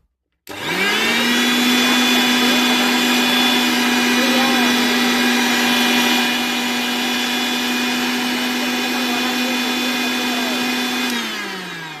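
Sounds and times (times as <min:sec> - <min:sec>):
electric motor whining: 0:00.5 - 0:12.0.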